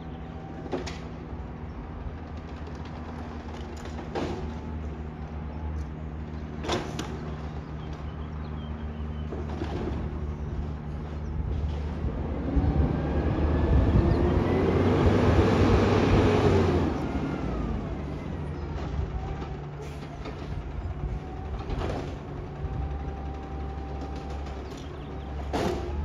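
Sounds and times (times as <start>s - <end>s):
garbage truck engine: 0.0s - 26.0s.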